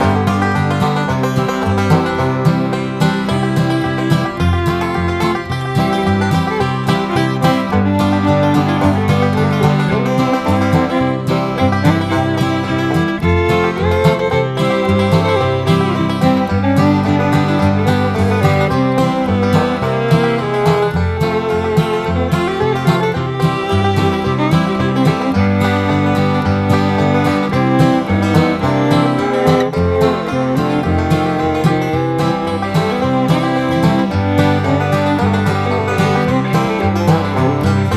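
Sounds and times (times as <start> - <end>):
upbeat country instrumental music: 0.0 - 37.9.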